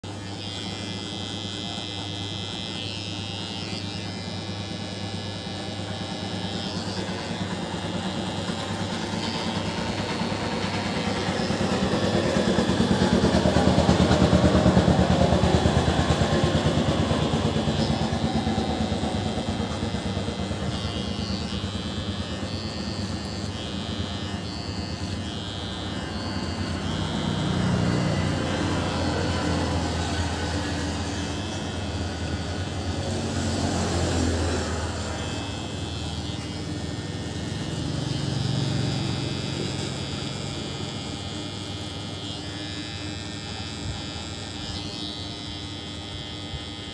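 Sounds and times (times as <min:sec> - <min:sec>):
electric hair clippers buzzing: 0:00.0 - 0:46.9.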